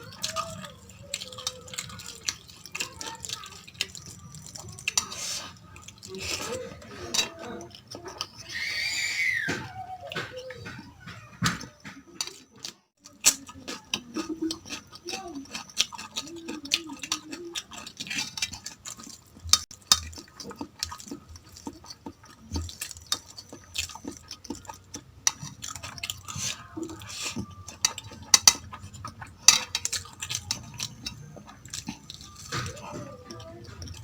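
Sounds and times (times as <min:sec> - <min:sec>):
utensils clinking on plate: 0:00.0 - 0:08.5, 0:10.1 - 0:21.1, 0:22.5 - 0:34.0.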